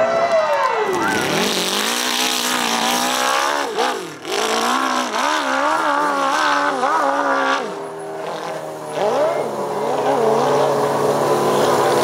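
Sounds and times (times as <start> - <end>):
dirt bike engine revving: 0.9 - 12.0.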